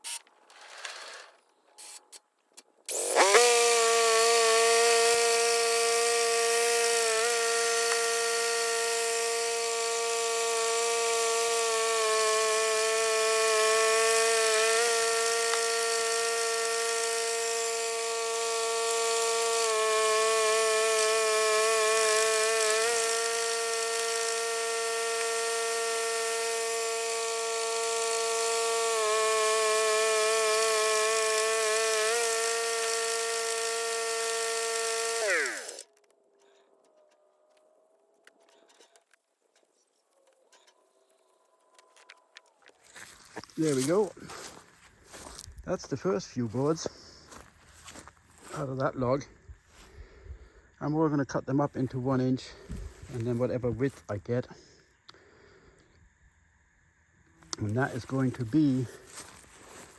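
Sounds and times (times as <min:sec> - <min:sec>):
bandsaw mill whining: 0:02.9 - 0:37.6, 0:41.1 - 0:59.9.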